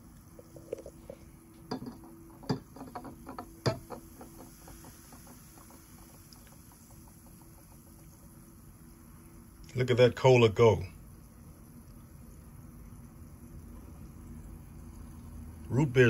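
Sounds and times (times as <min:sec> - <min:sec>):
soda fizzing: 0:00.0 - 0:16.0.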